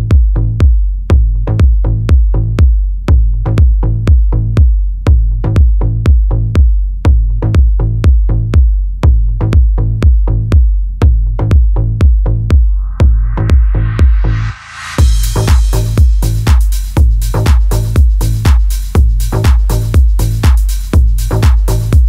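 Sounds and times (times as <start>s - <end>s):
deep bass line: 0.0s - 22.0s
electronic music with drum machine: 0.0s - 22.0s.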